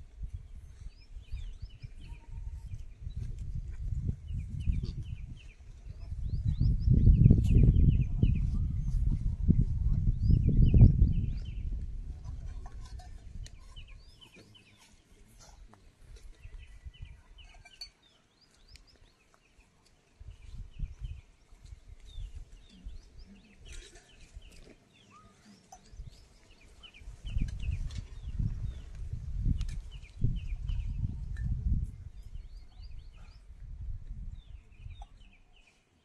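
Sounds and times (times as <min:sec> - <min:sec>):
small birds chirping: 0:00.2 - 0:33.6, 0:34.2 - 0:36.0.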